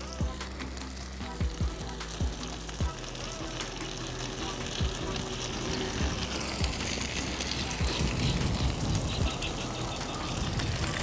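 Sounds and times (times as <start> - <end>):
wind hiss: 0.0 - 11.0.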